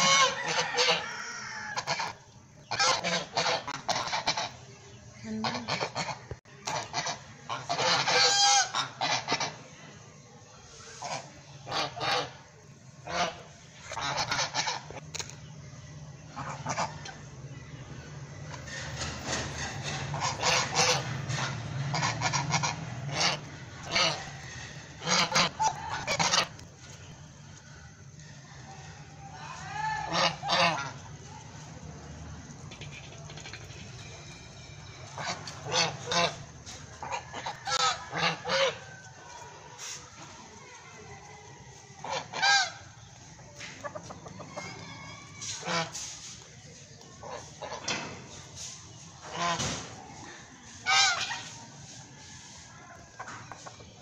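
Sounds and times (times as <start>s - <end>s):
geese honking: 0.0s - 10.0s, 10.7s - 15.0s, 16.2s - 41.1s, 41.8s - 51.7s.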